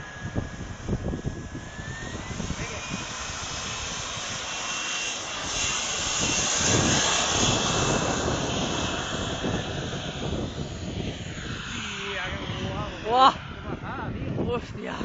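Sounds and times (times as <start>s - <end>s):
light aircraft engine passing: 0.0s - 15.0s.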